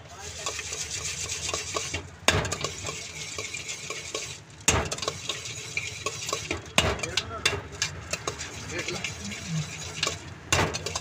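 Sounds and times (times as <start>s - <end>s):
food tossed in a metal bowl: 0.0s - 11.0s.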